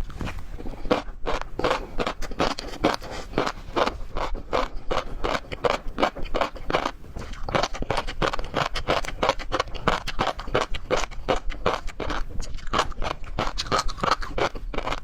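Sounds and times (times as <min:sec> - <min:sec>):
chewing and mouth smacking: 0:00.0 - 0:15.0.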